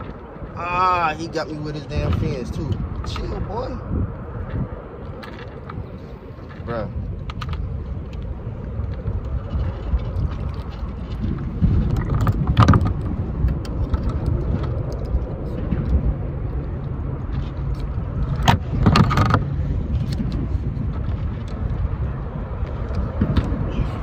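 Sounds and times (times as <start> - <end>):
wind on microphone: 0.0 - 24.0.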